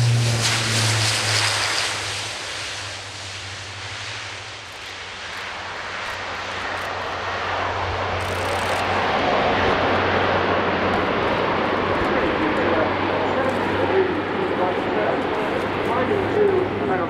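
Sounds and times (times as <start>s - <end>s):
turboprop engines roaring: 0.0s - 17.0s.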